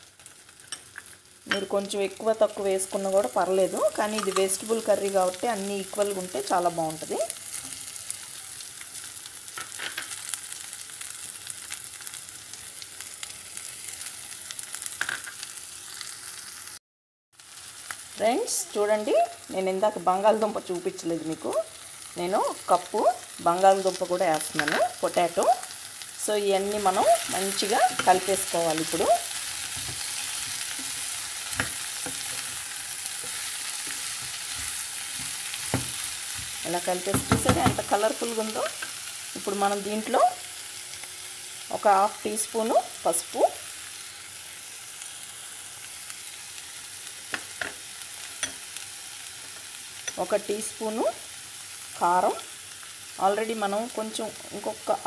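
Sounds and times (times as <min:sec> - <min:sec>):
vegetables sizzling in hot oil: 0:00.0 - 0:16.8, 0:17.4 - 0:55.0.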